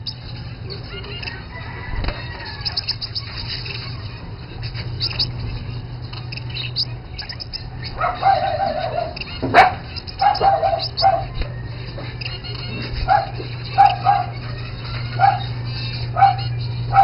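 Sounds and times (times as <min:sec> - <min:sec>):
finches chirping: 0:00.0 - 0:17.0
steady low hum: 0:00.0 - 0:17.0
lower drawn-out bird calls: 0:01.1 - 0:05.6, 0:06.2 - 0:17.0.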